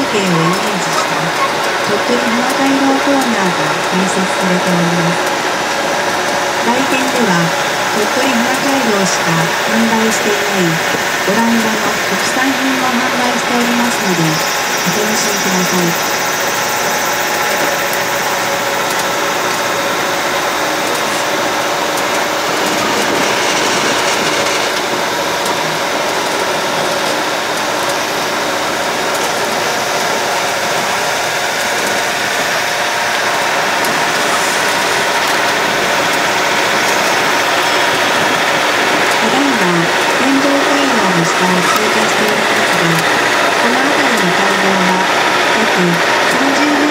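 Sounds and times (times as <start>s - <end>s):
carriages rolling: 0.0s - 46.9s
train engine running: 0.0s - 46.9s.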